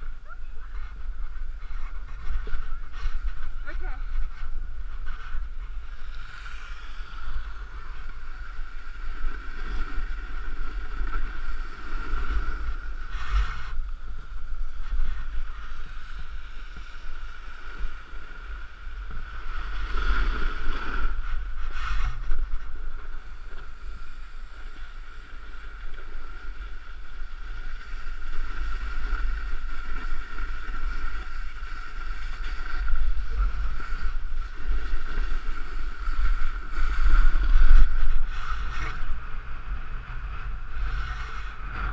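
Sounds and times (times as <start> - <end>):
board sliding over snow: 0.0 - 41.9
wind rushing over microphone: 0.0 - 41.9.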